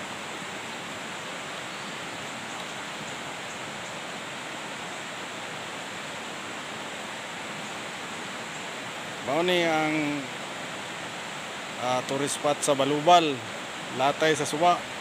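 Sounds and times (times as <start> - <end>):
river water flowing over rocks: 0.0 - 15.0.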